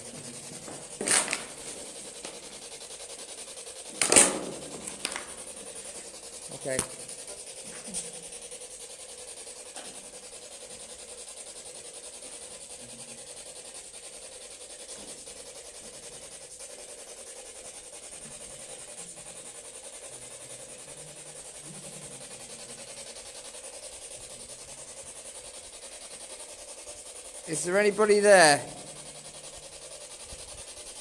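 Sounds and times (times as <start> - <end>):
background hiss: 0.0 - 31.0.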